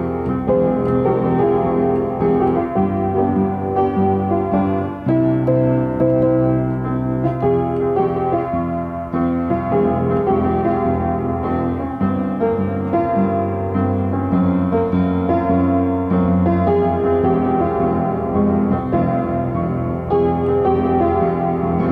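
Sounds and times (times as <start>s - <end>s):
solo piano playing slow piece: 0.0s - 21.9s.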